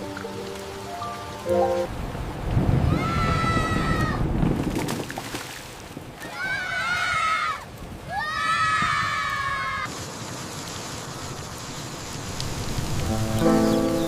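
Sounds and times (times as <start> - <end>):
steady rain hiss: 0.0 - 4.3, 6.6 - 14.0.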